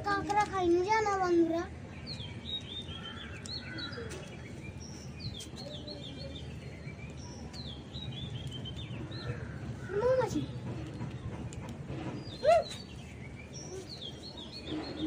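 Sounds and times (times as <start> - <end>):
songbird chirping: 0.1 - 15.0.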